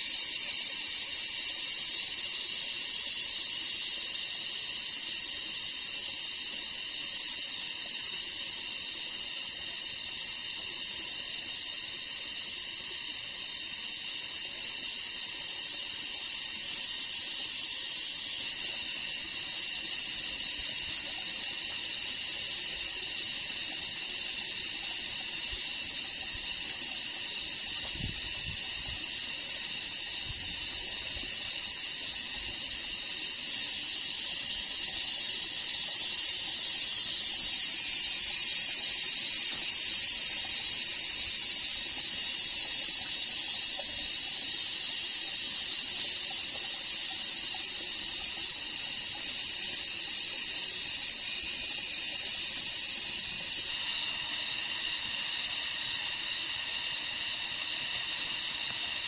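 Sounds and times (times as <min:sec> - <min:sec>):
rainforest ambience hiss: 0:00.0 - 0:59.0.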